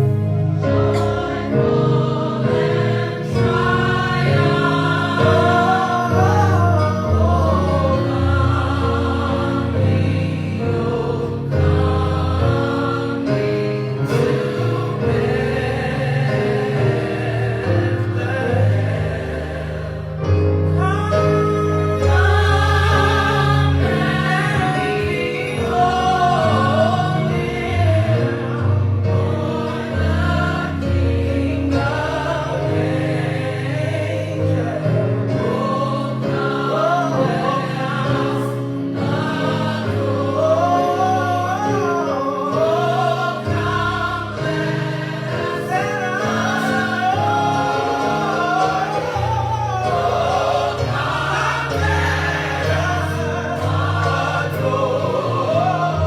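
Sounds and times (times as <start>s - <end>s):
choir singing gospel music: 0.0s - 56.0s.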